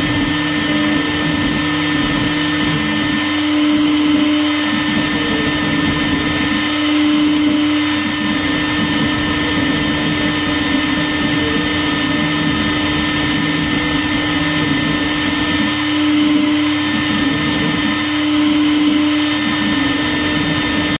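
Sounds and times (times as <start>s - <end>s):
router spindle humming: 0.0s - 20.9s.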